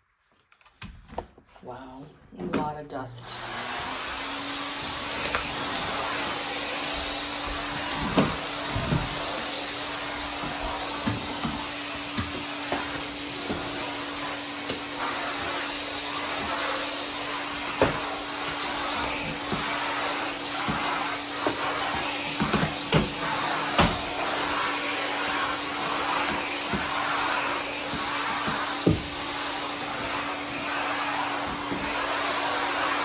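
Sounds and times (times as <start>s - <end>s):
vacuum cleaner running: 1.8s - 33.0s.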